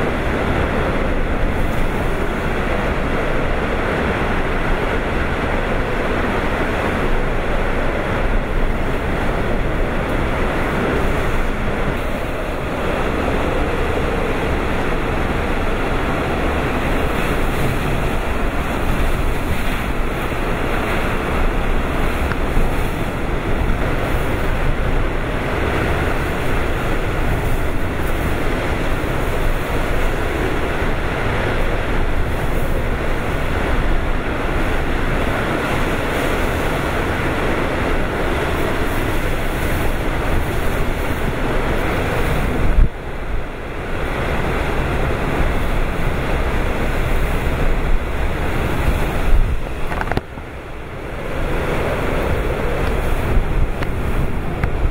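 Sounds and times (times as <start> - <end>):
wind and driving rain: 0.0 - 54.9
wind buffeting microphone: 0.0 - 54.9.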